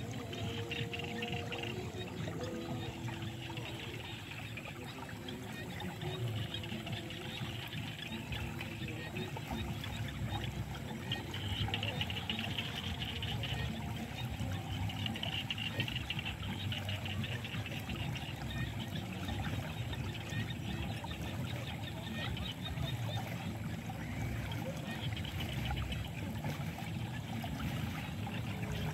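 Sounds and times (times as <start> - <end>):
muddy water rushing: 0.0 - 28.9.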